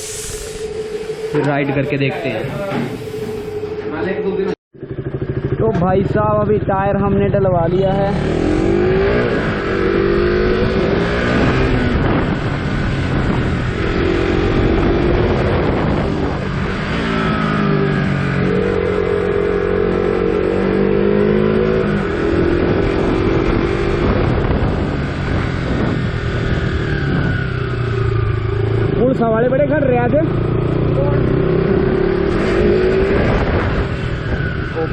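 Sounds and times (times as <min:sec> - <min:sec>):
wind noise: 0:00.0 - 0:04.0, 0:08.3 - 0:29.0, 0:30.4 - 0:34.9
motorcycle engine accelerating: 0:00.0 - 0:34.9.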